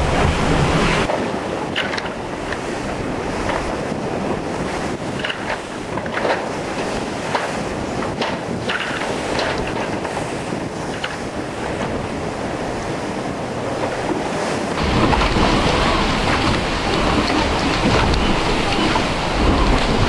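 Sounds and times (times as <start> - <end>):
sea rushing past hull: 0.0 - 20.0
wind buffeting microphone: 0.0 - 20.0.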